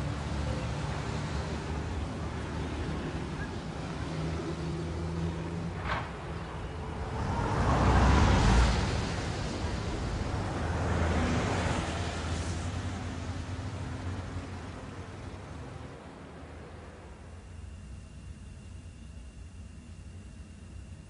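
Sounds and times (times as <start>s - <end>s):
vehicle passing softly: 0.0s - 17.3s
car passing close: 0.0s - 17.4s
low traffic rumble: 0.0s - 21.0s.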